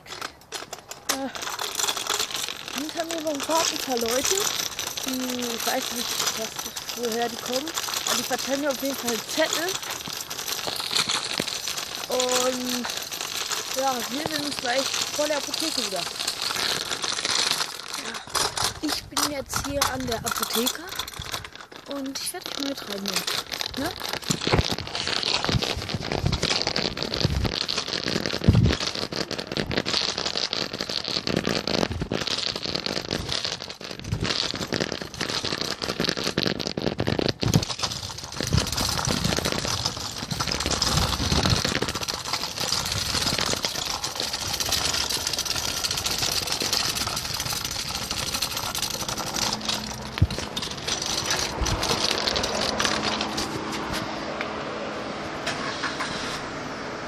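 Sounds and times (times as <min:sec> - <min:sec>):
handling knocks and crackles: 0:00.0 - 0:54.6.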